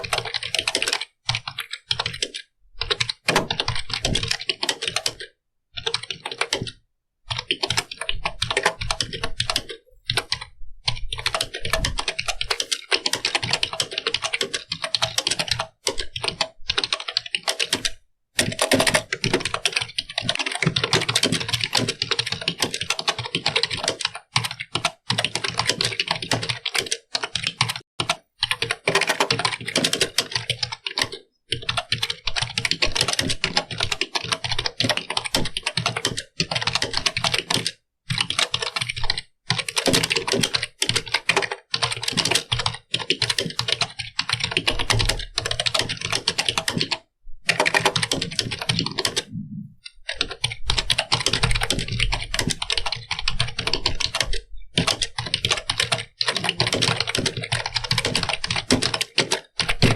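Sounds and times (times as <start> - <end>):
fast typing on keyboard: 0.0 - 59.9.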